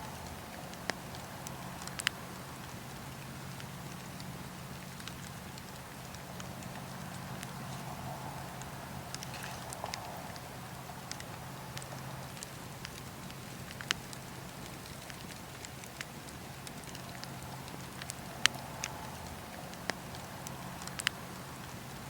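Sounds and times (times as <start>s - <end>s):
campfire crackling: 0.0s - 22.0s
fire popping: 0.0s - 22.0s.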